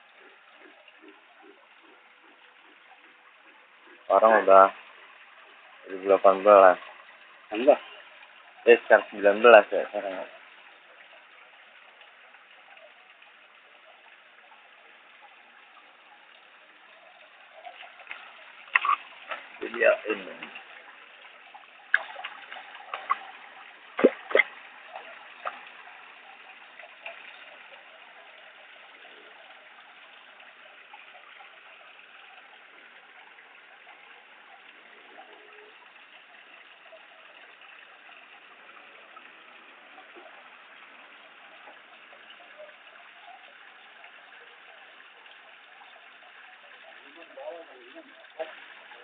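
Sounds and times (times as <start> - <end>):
waterfall trickling and splashing: 0.0 - 49.0.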